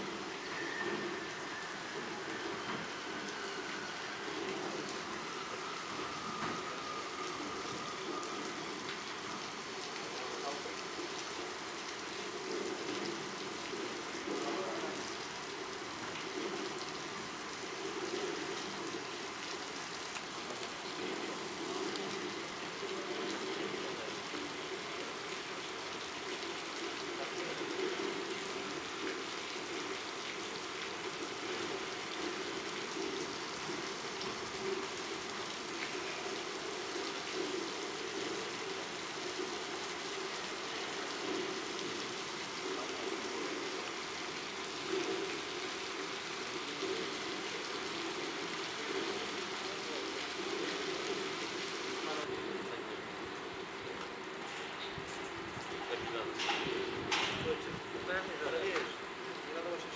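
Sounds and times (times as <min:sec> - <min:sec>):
water spraying from fire hose: 0:00.0 - 0:59.9.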